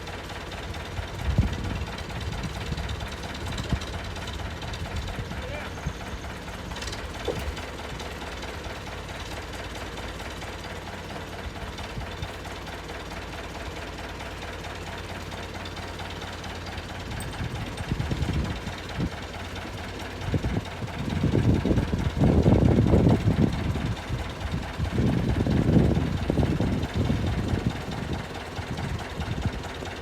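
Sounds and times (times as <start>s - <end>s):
tractor diesel engine idling: 0.0s - 30.0s
loud irregular rumbles: 0.7s - 30.0s.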